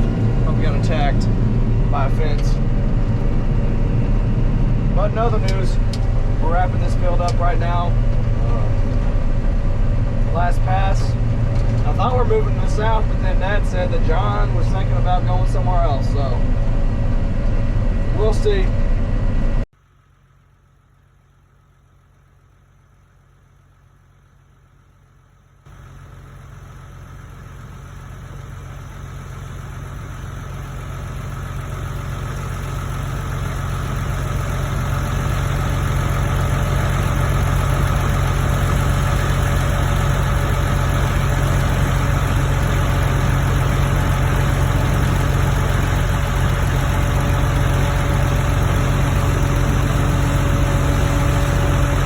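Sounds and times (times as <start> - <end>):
combine harvester engine drone: 0.0 - 52.0.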